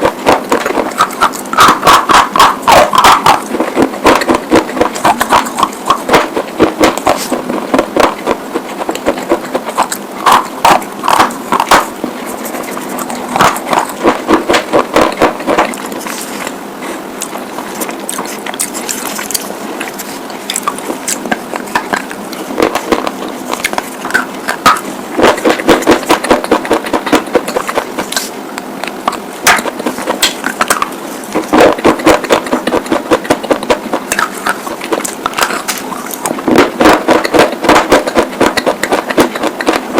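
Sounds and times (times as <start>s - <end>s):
chewing crunchy chalk: 0.0s - 39.9s.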